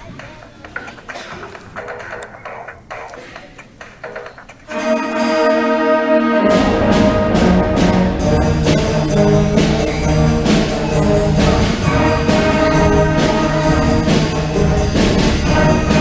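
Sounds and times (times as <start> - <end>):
drum strokes: 0.6 - 16.0
school band playing: 1.2 - 16.0.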